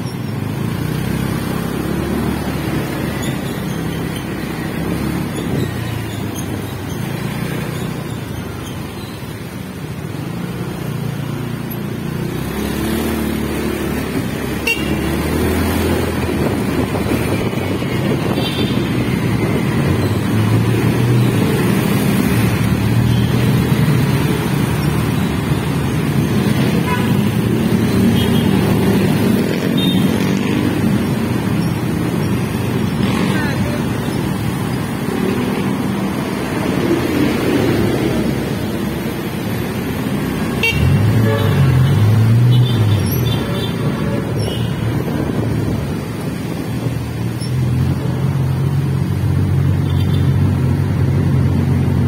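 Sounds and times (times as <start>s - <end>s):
engine and road rumble: 0.0s - 52.0s.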